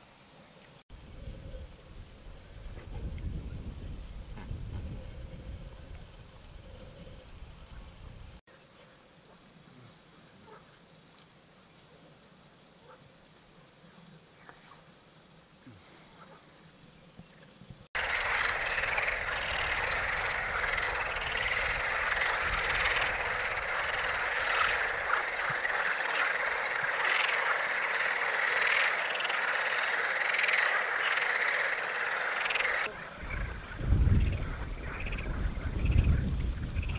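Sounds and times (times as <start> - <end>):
frogs croaking: 1.0 - 13.8, 16.2 - 36.9.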